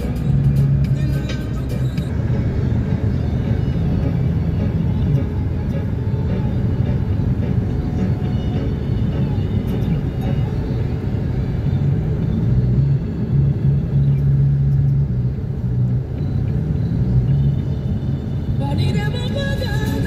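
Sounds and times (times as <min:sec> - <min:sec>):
car driving at speed: 0:00.0 - 0:20.0.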